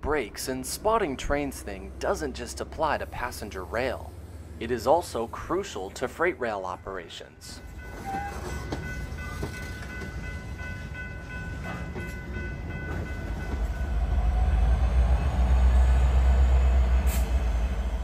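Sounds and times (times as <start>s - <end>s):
diesel locomotives rumbling: 0.0s - 18.0s
freight cars rumbling: 0.0s - 18.0s.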